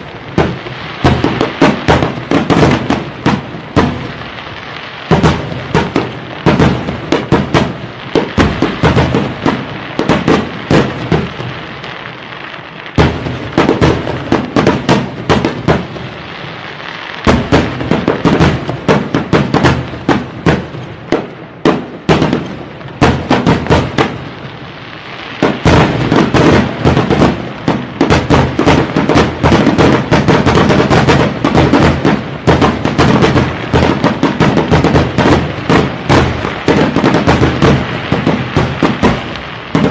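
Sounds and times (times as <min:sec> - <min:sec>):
fireworks bangs and crackling pops: 0:00.0 - 0:39.9.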